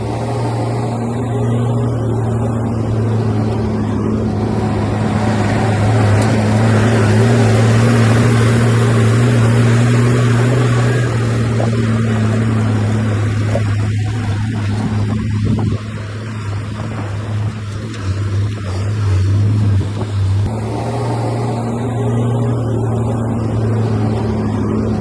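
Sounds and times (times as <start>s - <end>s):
heavy diesel engine under load: 0.0s - 25.0s.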